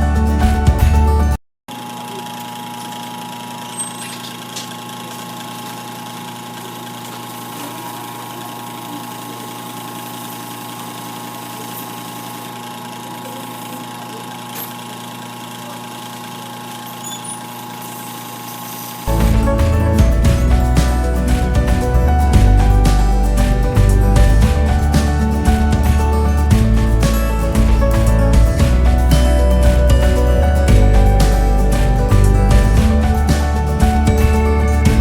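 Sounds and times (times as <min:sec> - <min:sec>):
electric fan motor humming: 0:01.7 - 0:35.0.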